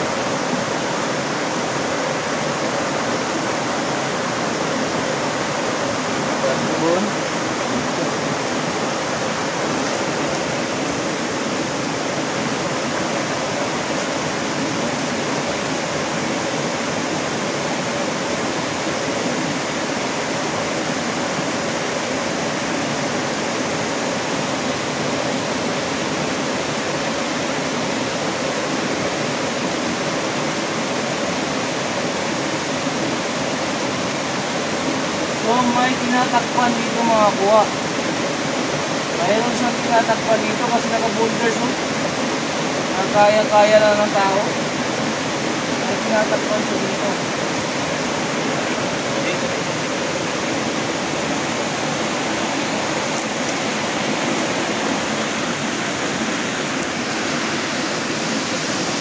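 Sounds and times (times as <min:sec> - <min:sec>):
water rushing in rocky stream: 0:00.0 - 0:59.0.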